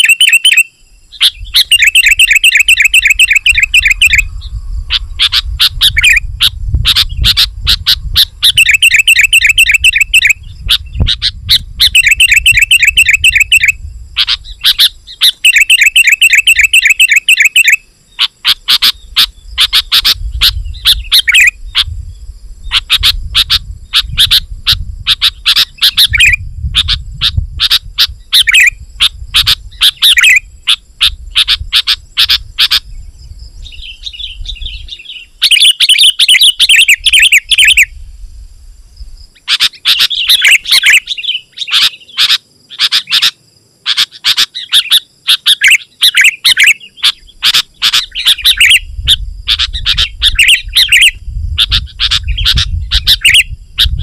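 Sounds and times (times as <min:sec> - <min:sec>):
bird singing fast notes: 0:00.0 - 0:38.0, 0:39.4 - 0:54.0.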